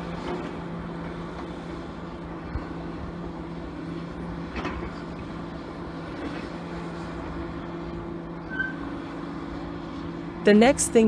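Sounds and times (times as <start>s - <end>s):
excavator diesel engine humming: 0.0s - 11.0s.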